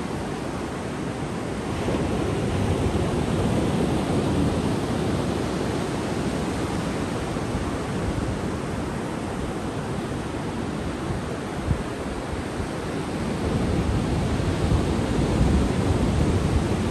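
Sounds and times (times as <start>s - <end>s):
surf breaking on a beach: 0.0s - 16.9s.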